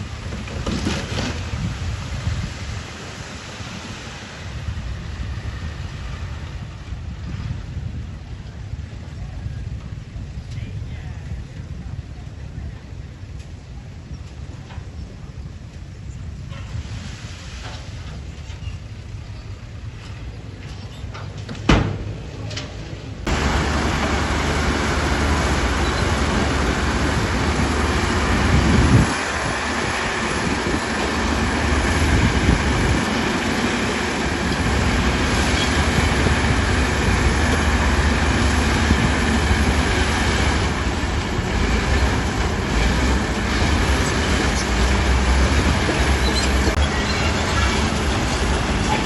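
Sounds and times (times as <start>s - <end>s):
heavy diesel machinery rumbling: 0.0s - 49.0s.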